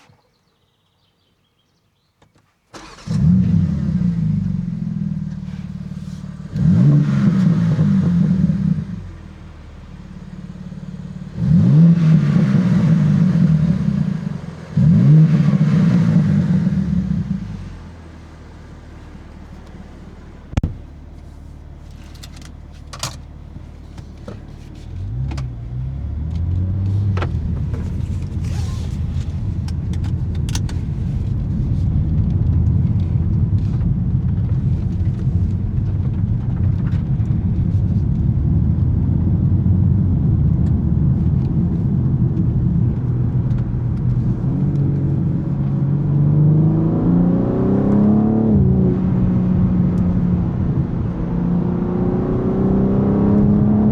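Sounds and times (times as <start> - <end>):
car engine idling and accelerating: 2.8 - 53.9.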